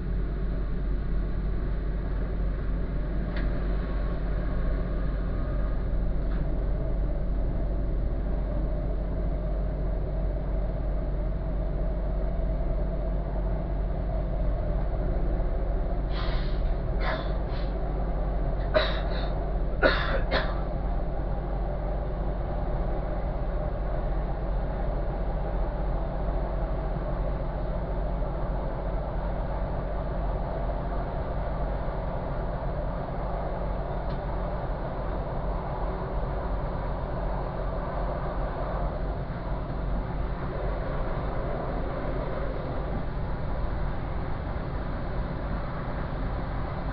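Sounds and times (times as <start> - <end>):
train low rumble: 0.0 - 46.9.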